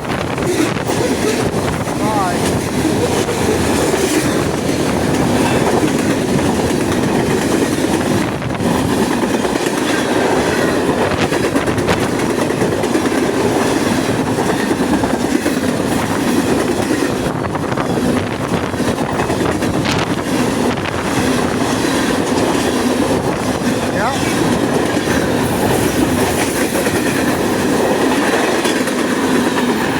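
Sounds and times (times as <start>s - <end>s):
freight train rumble: 0.0s - 29.9s
wheels clacking over rail joints: 0.0s - 29.9s.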